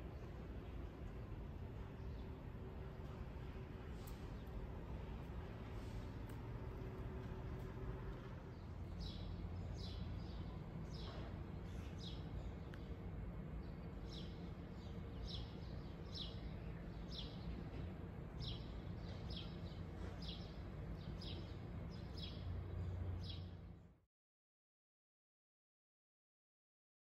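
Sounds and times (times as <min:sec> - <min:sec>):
small birds chirping: 0:00.0 - 0:23.6
low outdoor rumble: 0:00.0 - 0:24.0.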